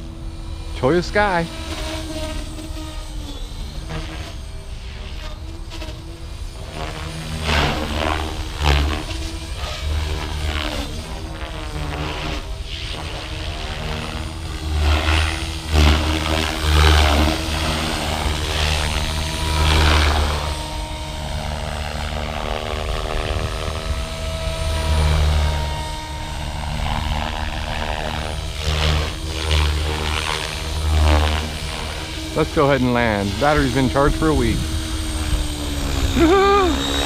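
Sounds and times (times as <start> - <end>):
electric motor and gear whine: 0.0 - 37.0
helicopter rotor beating and whooshing: 0.0 - 37.0.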